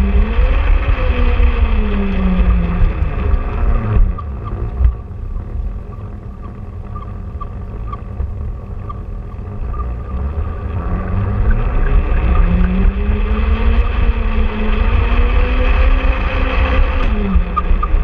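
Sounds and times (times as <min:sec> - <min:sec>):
wheels rumbling along track: 0:00.0 - 0:18.0.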